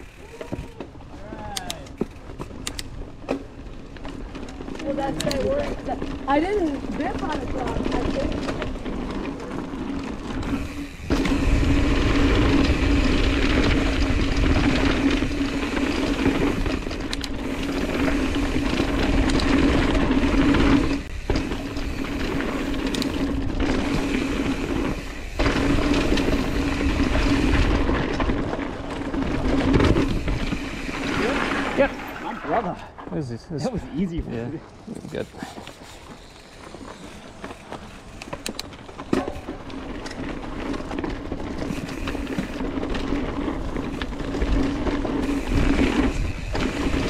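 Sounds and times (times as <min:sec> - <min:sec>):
bicycle freehub ratcheting: 0:00.0 - 0:03.5, 0:04.2 - 0:31.8, 0:35.1 - 0:47.0
tyres rumbling on dirt: 0:00.0 - 0:47.0.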